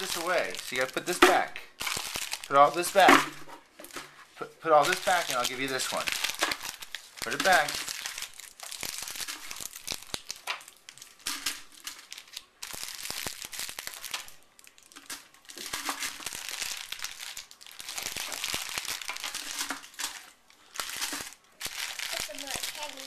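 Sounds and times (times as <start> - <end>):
candy wrappers crinkling: 0.0 - 23.0.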